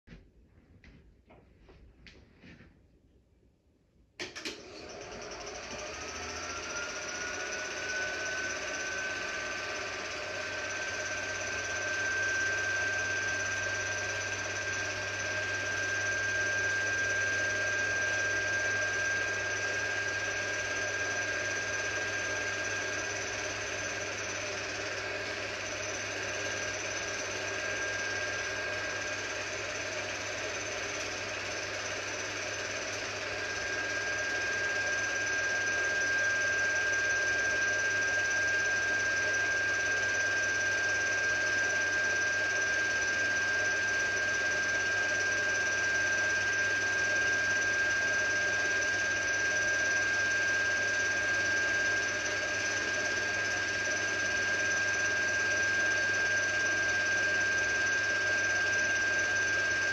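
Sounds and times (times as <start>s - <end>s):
film projector whirring: 4.2s - 59.9s.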